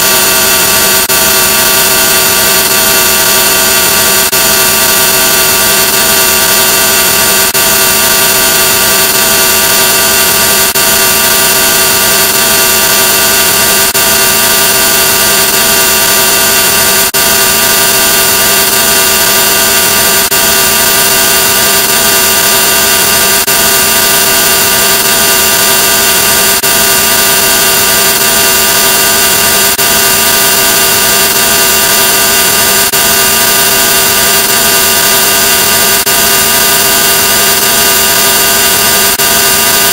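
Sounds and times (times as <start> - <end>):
distorted buzzing drone: 0.0 - 39.9.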